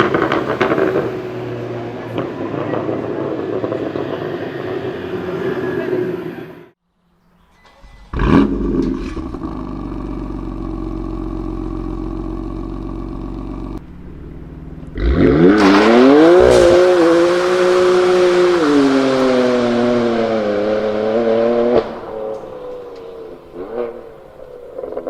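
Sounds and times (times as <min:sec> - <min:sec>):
exhaust pops: 0:00.0 - 0:05.0, 0:07.6 - 0:25.0
car engine revving and idling: 0:00.0 - 0:06.4, 0:08.1 - 0:25.0.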